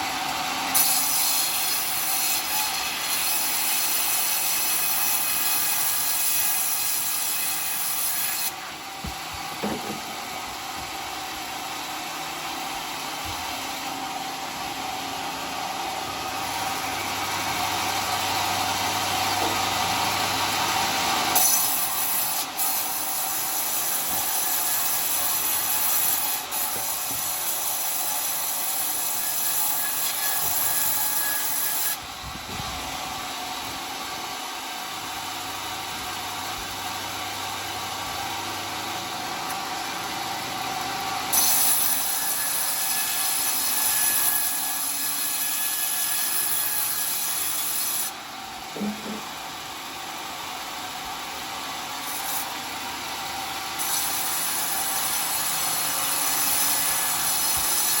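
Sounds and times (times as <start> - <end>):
circular saw cutting a log: 0.0 - 58.0.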